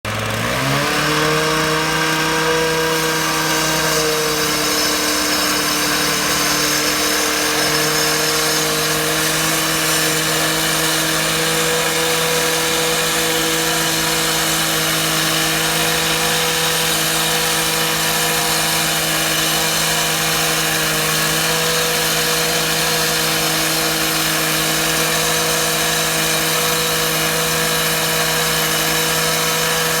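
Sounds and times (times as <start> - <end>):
power saw cutting concrete: 0.1 - 30.0.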